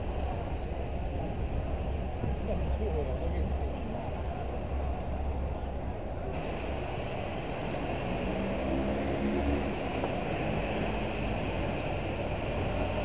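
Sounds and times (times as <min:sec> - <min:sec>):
bus engine rumble: 0:00.0 - 0:13.0
wind and road noise hiss: 0:00.0 - 0:13.0.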